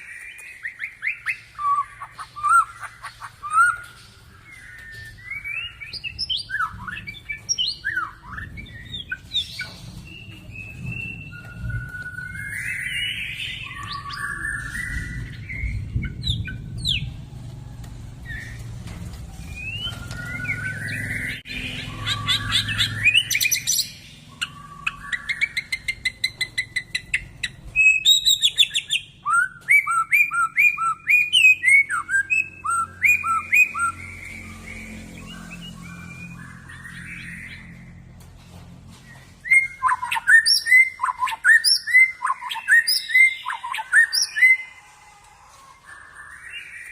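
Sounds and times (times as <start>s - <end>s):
bird singing whistles and trills: 0.0s - 17.2s, 19.4s - 37.9s, 39.0s - 44.8s.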